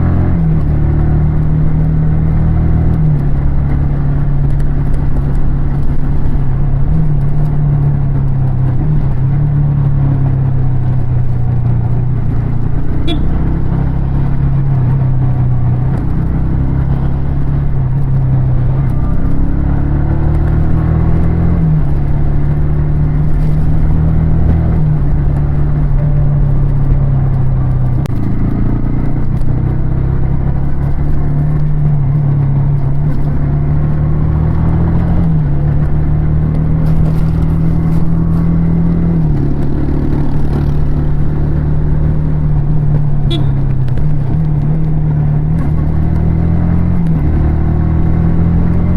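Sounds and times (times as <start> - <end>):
motorcycle engine and exhaust: 0.0 - 48.9.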